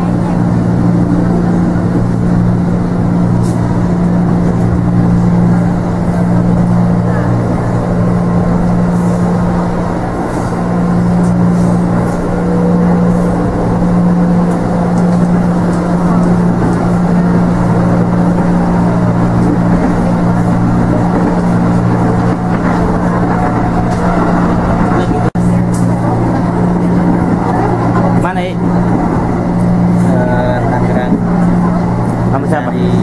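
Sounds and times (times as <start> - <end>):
electric train cabin hum: 0.0 - 33.0
train running rumble: 0.0 - 33.0.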